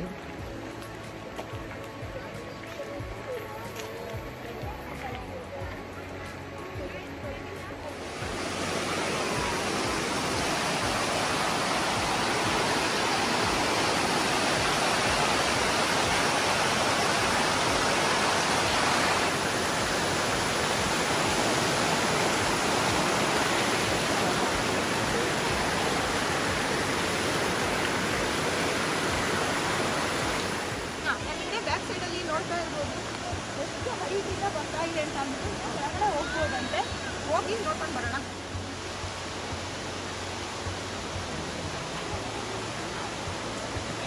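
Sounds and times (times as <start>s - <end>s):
waterfall rushing over rocks: 0.0s - 44.0s.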